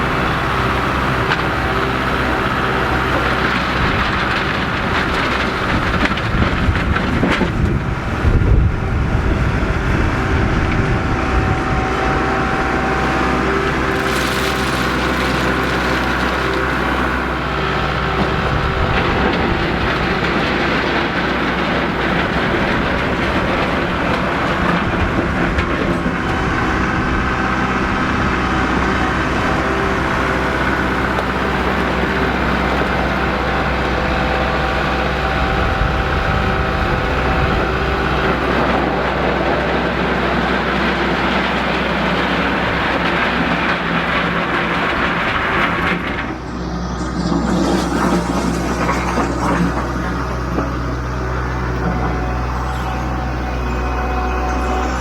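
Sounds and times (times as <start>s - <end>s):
engine running with rattle: 0.0s - 55.0s.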